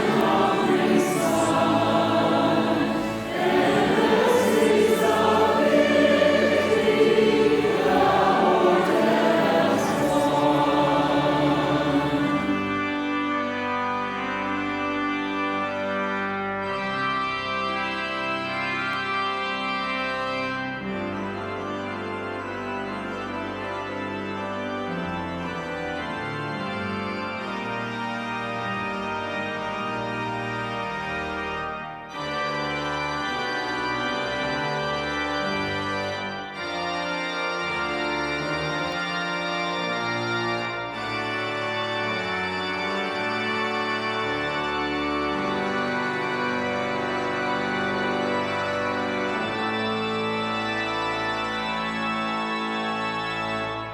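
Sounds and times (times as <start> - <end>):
organ playing slow chords: 0.0 - 53.9.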